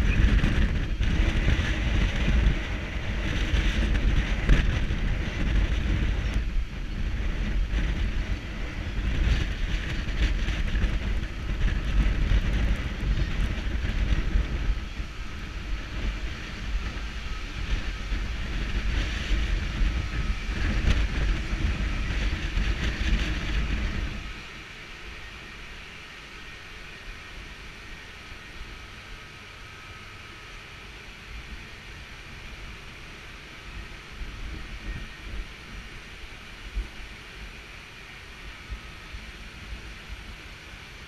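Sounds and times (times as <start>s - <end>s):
faint steady whine: 0.0s - 41.0s
strong wind buffeting microphone: 0.0s - 41.0s.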